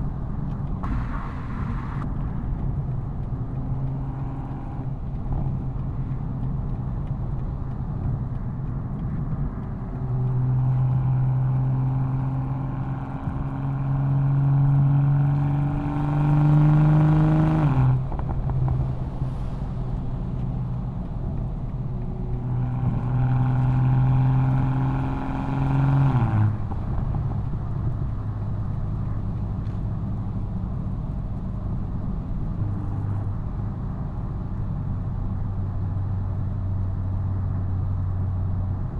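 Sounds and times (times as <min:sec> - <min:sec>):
car exhaust under load: 0:00.0 - 0:38.9.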